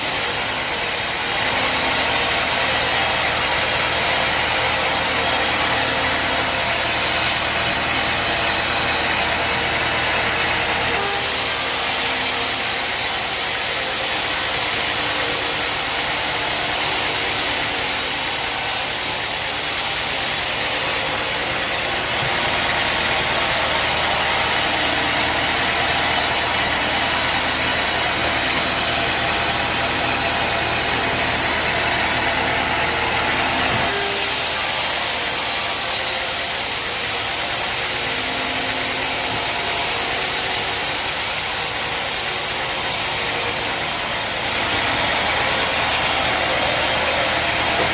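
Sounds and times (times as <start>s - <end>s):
sawmill machinery hum and hiss: 0.0s - 47.9s.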